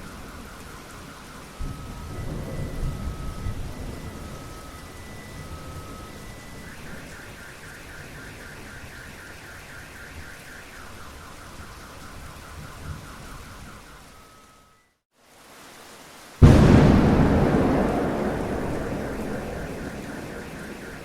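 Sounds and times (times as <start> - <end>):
steady rain: 0.0 - 21.0
car alarm: 0.2 - 14.8, 16.4 - 21.0.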